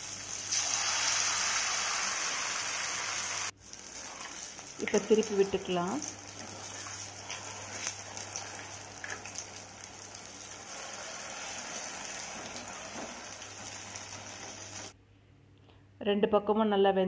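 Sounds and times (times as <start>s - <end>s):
dumplings deep-frying in oil: 0.0s - 15.0s.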